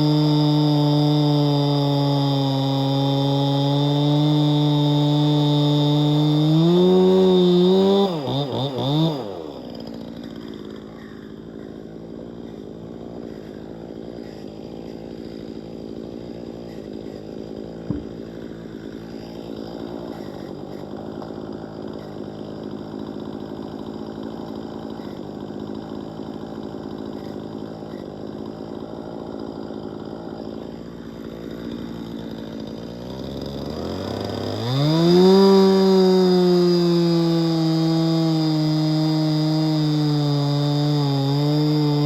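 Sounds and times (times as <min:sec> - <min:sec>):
chainsaw running: 0:00.0 - 0:42.0.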